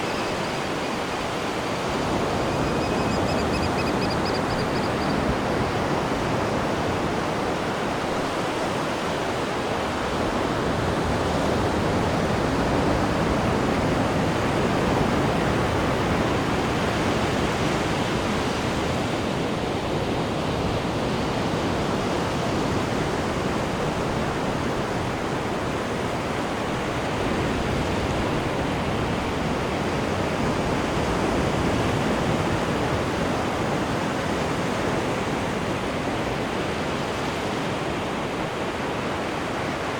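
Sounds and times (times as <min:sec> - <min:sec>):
sea water churning in ship wake: 0:00.0 - 0:39.9.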